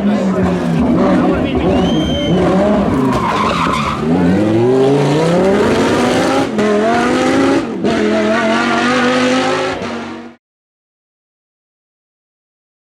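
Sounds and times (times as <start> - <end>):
race car engine accelerating: 0.0 - 10.4.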